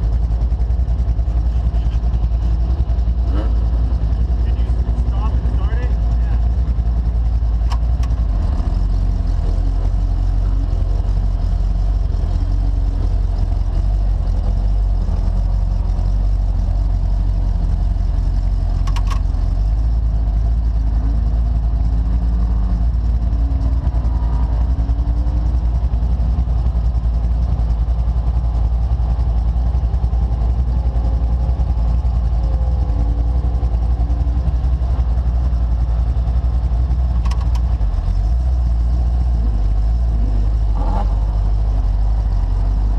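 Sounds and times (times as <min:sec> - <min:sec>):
engine deep rumble: 0:00.0 - 0:42.9.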